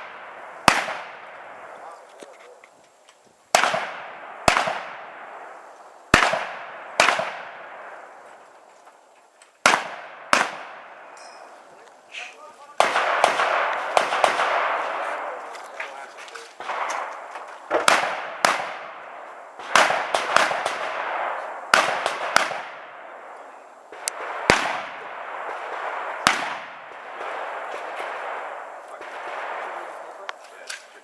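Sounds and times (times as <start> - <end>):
rifle shots echoing: 0.0 - 2.2, 3.5 - 8.5, 9.6 - 31.0.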